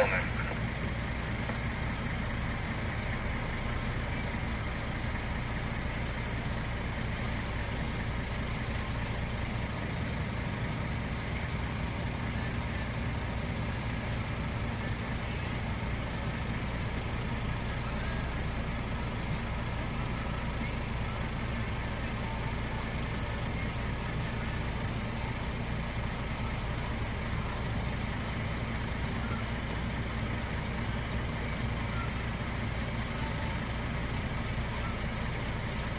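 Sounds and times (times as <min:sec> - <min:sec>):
machine engine and conveyor drone: 0:00.0 - 0:35.9.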